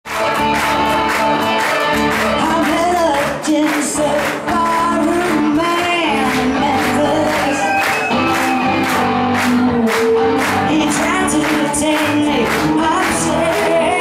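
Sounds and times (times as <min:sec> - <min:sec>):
live pop-rock band playing: 0:00.1 - 0:14.0
woman singing: 0:02.4 - 0:14.0.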